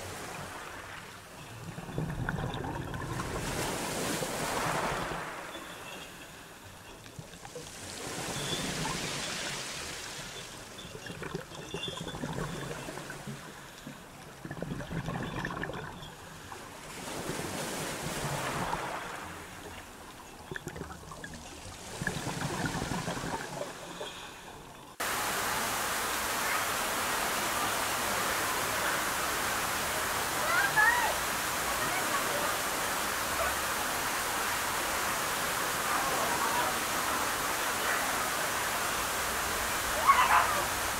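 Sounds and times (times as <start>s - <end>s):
steady rush of water: 0.0s - 40.9s
surging water with crackling: 0.0s - 40.9s.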